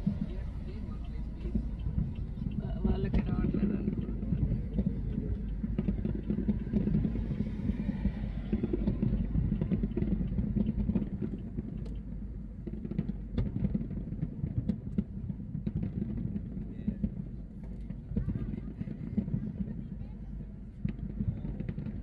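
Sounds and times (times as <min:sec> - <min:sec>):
fireworks booming: 0:00.0 - 0:22.0
fireworks crackling: 0:00.0 - 0:22.0.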